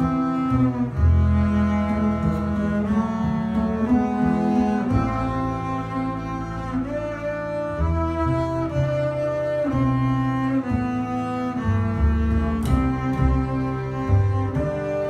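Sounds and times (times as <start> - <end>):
bowed double basses: 0.0 - 15.0.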